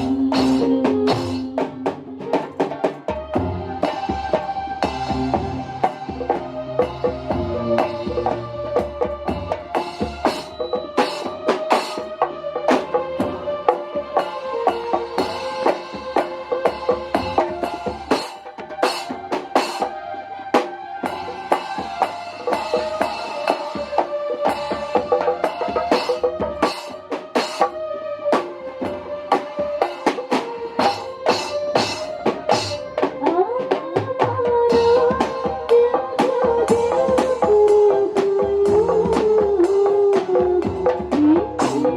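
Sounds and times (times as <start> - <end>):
fast hand-drum strokes: 0.0 - 20.0, 20.6 - 27.8, 28.4 - 41.9
sustained melody line: 0.0 - 41.9.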